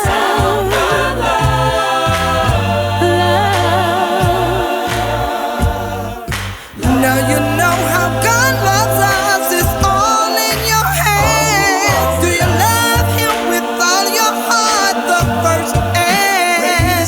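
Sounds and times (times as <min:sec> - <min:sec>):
steady low bass: 0:00.0 - 0:13.3, 0:15.2 - 0:16.1
choir singing in harmony: 0:00.0 - 0:17.0.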